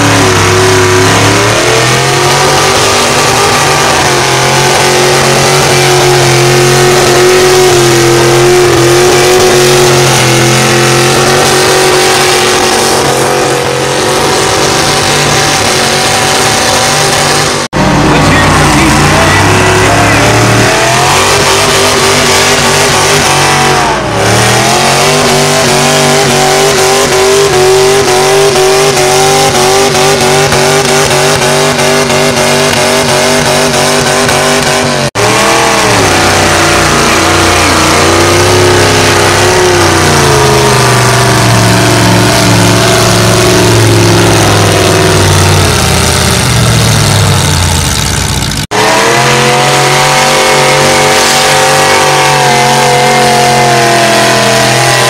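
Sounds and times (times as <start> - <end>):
engine revving hard: 0.0 - 55.0.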